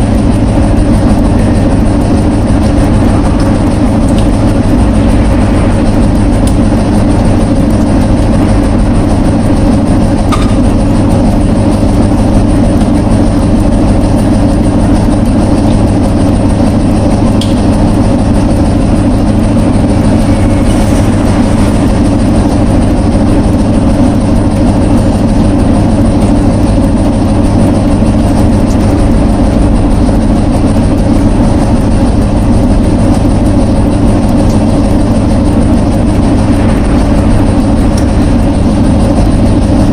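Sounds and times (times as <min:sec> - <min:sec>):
low machine drone: 0:00.0 - 0:39.9.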